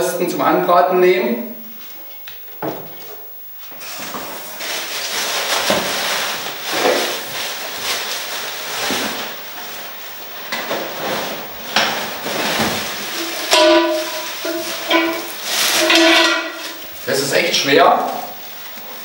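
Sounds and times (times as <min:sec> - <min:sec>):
plastic and cardboard rustling: 0:03.6 - 0:19.0.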